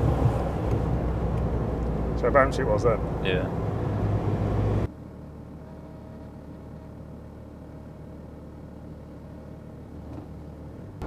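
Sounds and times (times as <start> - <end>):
engine hum inside car cabin: 0.0 - 11.0.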